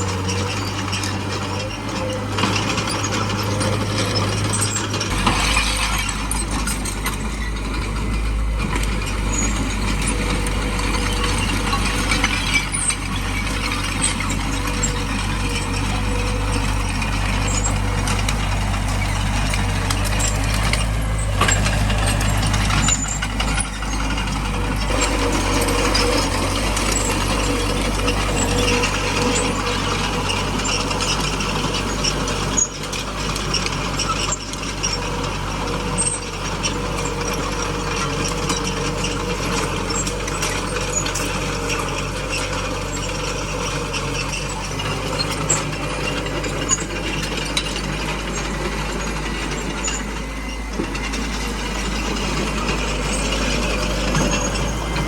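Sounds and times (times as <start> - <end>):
diesel engine running: 0.0 - 55.0
metallic clatter of steel tracks: 0.0 - 55.0.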